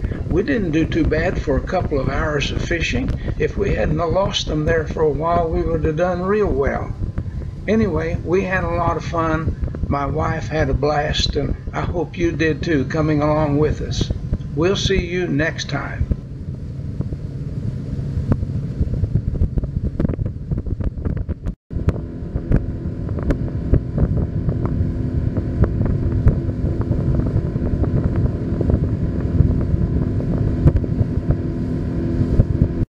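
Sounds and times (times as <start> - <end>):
outboard motor running: 0.0 - 32.8
wind buffeting microphone: 0.0 - 32.9.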